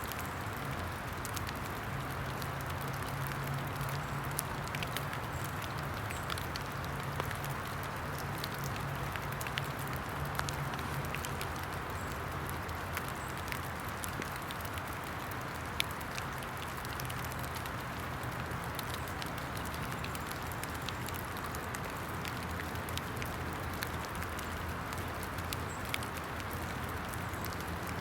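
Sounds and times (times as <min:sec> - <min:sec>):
rain falling: 0:00.0 - 0:28.0
small fire crackling: 0:00.0 - 0:28.0.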